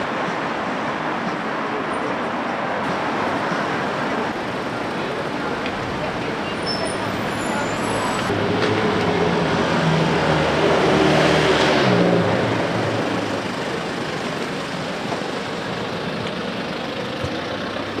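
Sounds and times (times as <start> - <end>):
steady traffic noise: 0.0 - 18.0.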